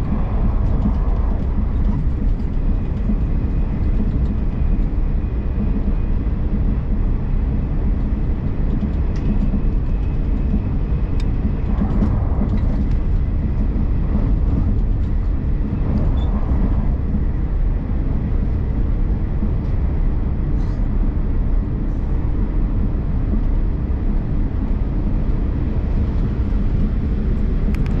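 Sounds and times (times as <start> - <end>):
high-speed train rumble: 0.0 - 28.0.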